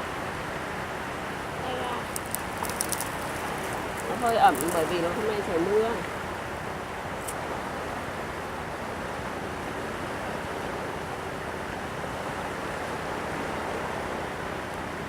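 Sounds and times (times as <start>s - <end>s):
sea surf: 0.0s - 15.0s
wind: 0.0s - 15.0s.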